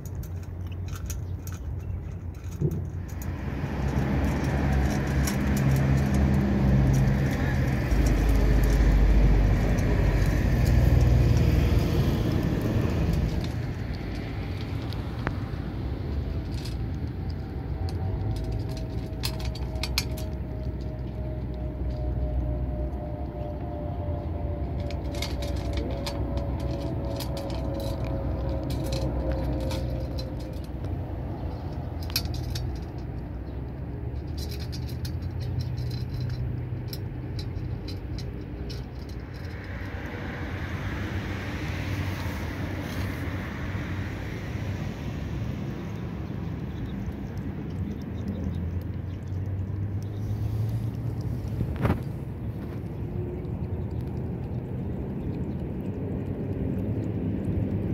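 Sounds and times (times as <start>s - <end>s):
cat crunching dry food: 0.0s - 23.2s, 24.6s - 44.0s, 45.8s - 57.9s
traffic rumble: 0.0s - 57.9s.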